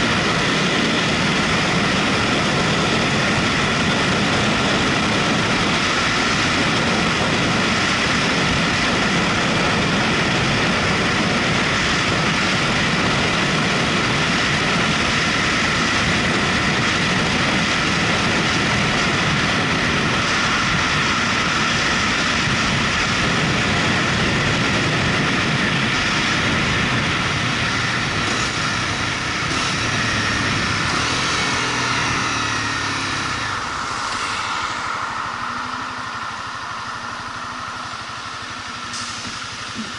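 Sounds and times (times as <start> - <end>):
motorcycle engine and road noise: 0.0 - 39.9.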